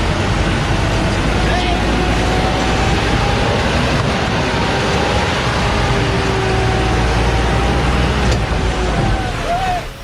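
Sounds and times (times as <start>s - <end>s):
heavy vehicle rumbling: 0.0s - 10.0s.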